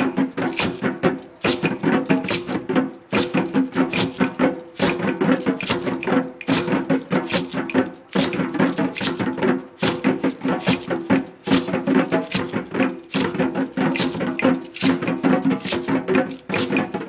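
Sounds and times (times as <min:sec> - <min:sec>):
djembe drumming: 0:00.0 - 0:17.0.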